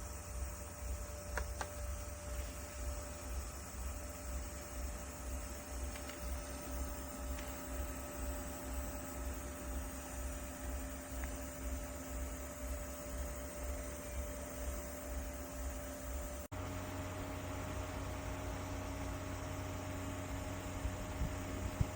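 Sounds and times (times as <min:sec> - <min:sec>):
fan motor humming: 0:00.0 - 0:21.9.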